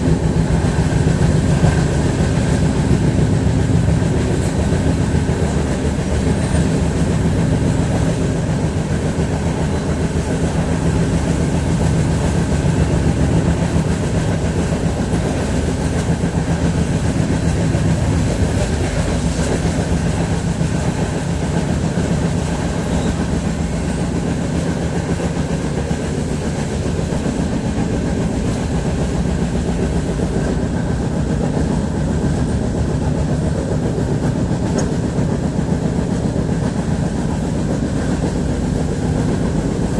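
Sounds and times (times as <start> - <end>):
loud mechanical rumble: 0.0 - 39.9.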